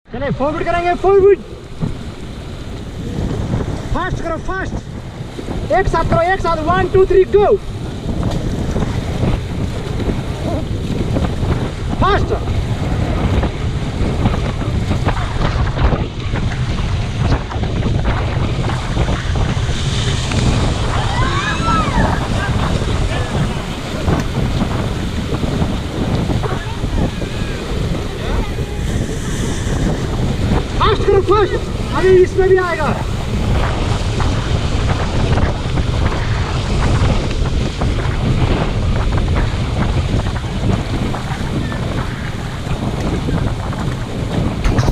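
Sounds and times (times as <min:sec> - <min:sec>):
wind buffeting microphone: 0:00.0 - 0:44.9
rushing river water: 0:00.1 - 0:44.9
paddle splashing: 0:00.3 - 0:44.9.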